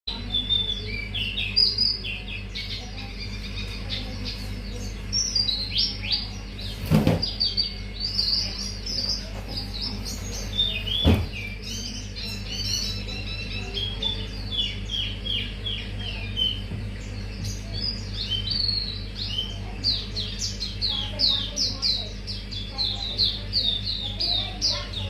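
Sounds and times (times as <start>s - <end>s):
bird singing high chirps: 0.1s - 25.0s
steady low hum: 0.1s - 25.0s.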